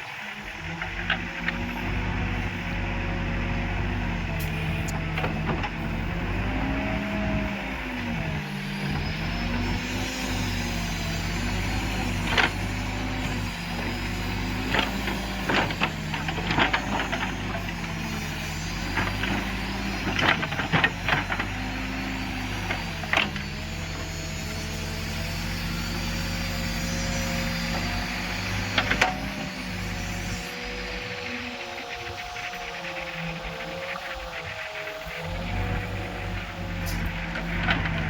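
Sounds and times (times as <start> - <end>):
diesel engine working under load: 0.0 - 38.0.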